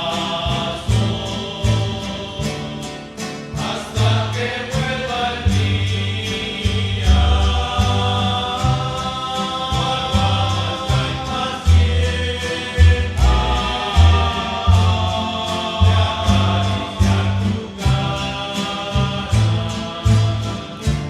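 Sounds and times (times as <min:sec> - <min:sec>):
men singing in harmony: 0:00.0 - 0:21.0
plucked bass line: 0:00.0 - 0:21.0
strummed guitars: 0:00.0 - 0:21.0.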